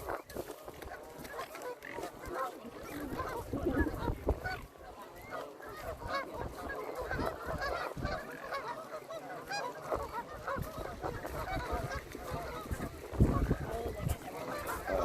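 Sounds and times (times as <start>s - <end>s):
waterfowl honking: 0.0s - 15.0s.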